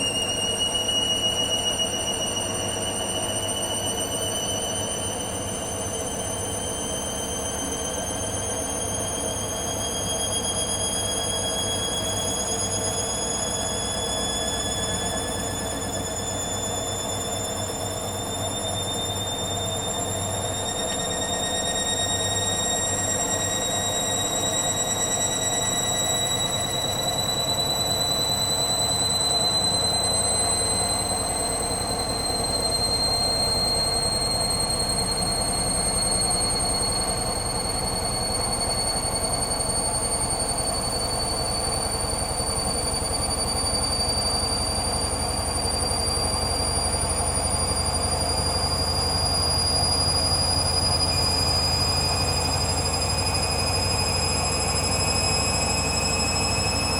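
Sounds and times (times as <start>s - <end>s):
motor whine rising in pitch: 0.0s - 56.9s.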